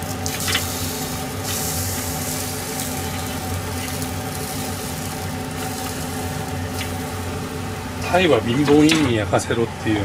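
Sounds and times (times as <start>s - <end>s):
fish sizzling under grill: 0.0s - 9.0s.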